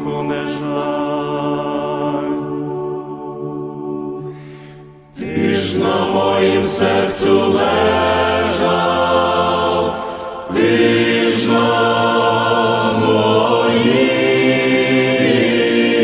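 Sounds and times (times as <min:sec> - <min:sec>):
choral singing: 0:00.0 - 0:16.0.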